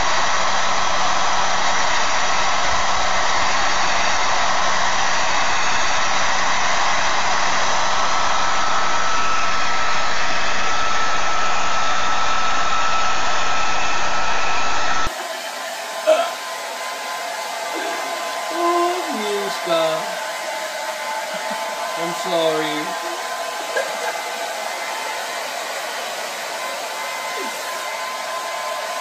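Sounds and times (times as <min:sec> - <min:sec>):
hair dryer running: 0:00.0 - 0:29.0.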